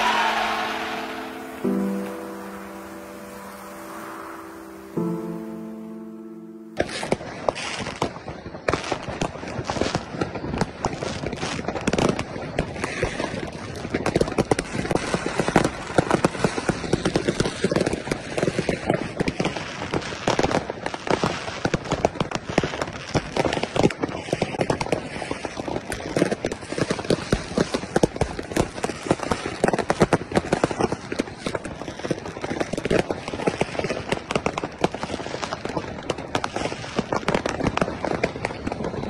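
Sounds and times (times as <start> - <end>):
firecrackers crackling: 0.0 - 39.0.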